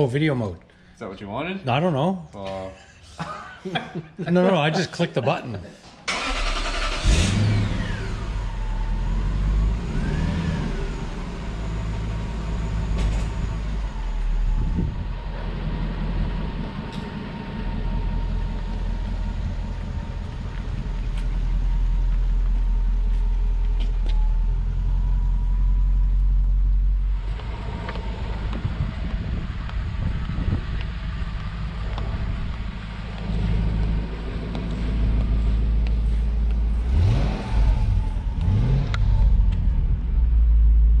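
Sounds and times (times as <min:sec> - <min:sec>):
engine whine: 0:06.1 - 0:41.0
car engine running: 0:06.8 - 0:41.0.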